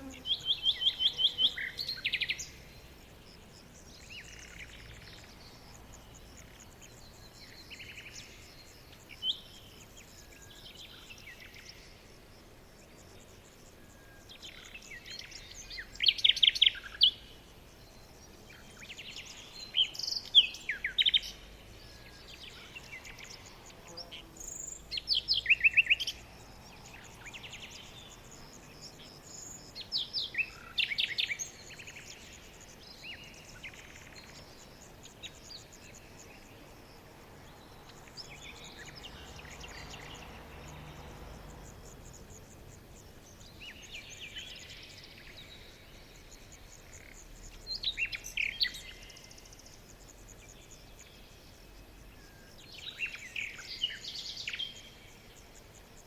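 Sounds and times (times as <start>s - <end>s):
faint background hiss: 0.0s - 56.0s
songbirds chirping and trilling: 0.0s - 56.0s.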